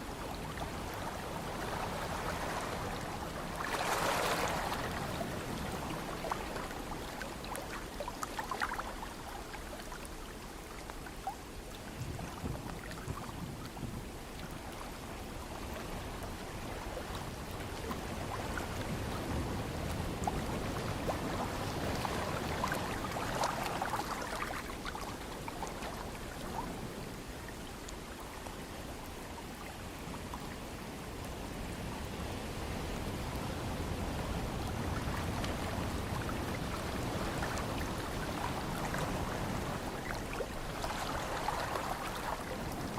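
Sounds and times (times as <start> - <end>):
ocean surf washing: 0.0 - 9.2, 14.9 - 28.0, 29.9 - 42.9.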